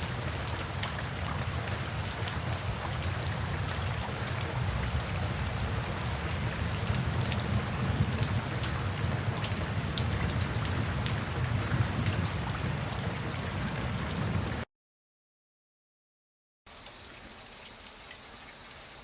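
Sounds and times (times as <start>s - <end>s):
raindrops falling: 0.0s - 14.7s, 16.7s - 19.0s.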